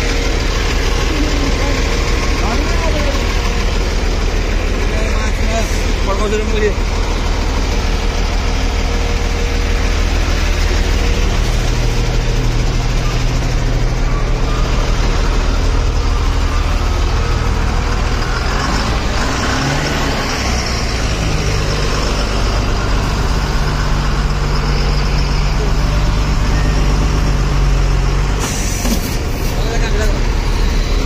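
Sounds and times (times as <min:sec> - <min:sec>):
road noise: 0:00.0 - 0:31.0
truck engine running: 0:00.0 - 0:31.0.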